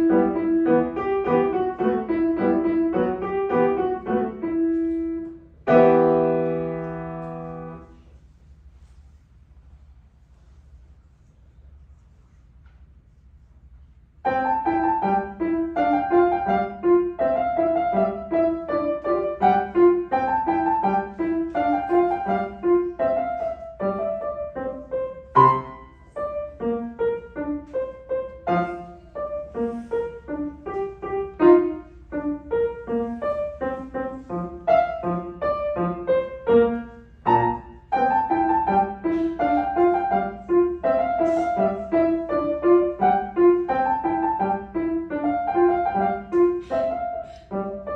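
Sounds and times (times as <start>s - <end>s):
classical piano piece: 0.0s - 8.2s, 14.0s - 47.9s.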